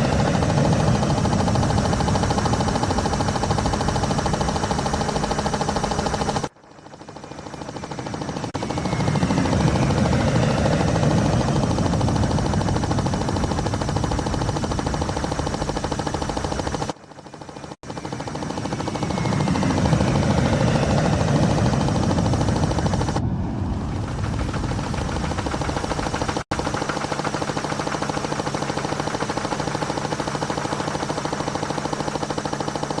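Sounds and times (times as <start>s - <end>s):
helicopter rotor chopping: 0.0s - 33.0s
steady low hum: 0.0s - 33.0s.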